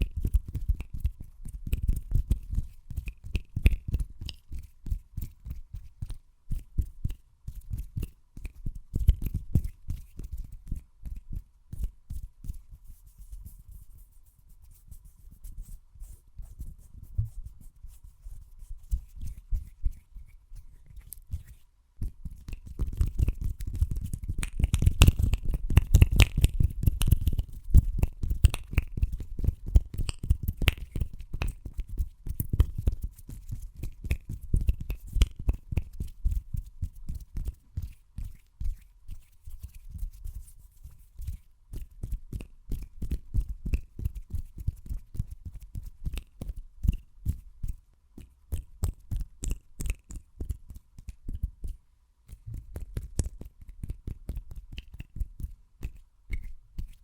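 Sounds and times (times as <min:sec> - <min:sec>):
hands tapping patting and rubbing: 0:00.0 - 0:57.0.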